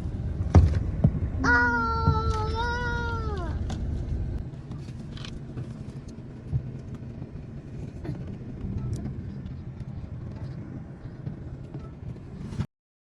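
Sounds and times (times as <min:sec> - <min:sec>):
car rumble from inside cabin: 0:00.0 - 0:12.6.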